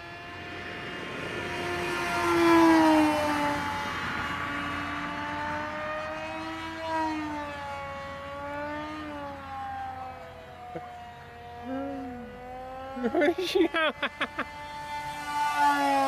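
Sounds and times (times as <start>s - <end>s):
model plane motor whining: 0.0s - 16.0s.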